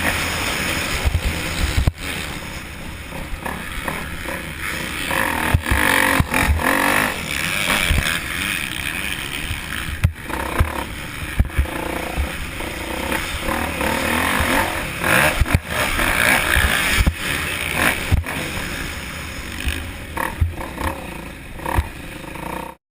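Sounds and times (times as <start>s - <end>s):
dirt bike engines revving: 0.0s - 22.8s.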